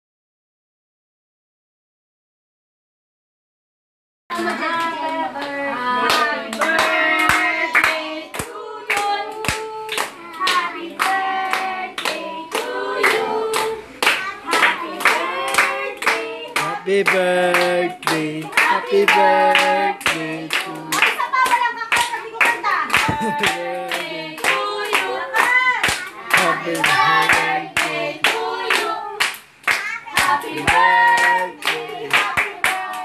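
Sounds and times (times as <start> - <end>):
group singing: 4.3 - 33.0
rhythmic hand clapping: 4.3 - 33.0.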